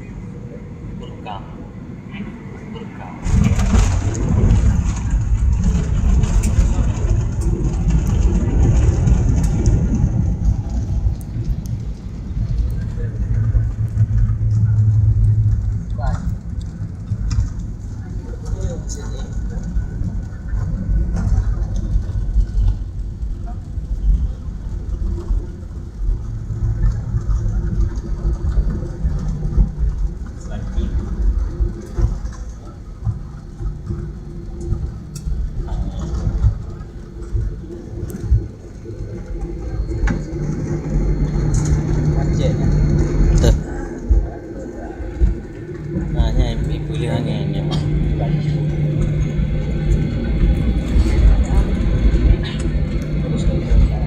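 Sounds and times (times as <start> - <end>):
jet engines rumbling: 0.0 - 54.0
wheels on runway: 0.0 - 54.0.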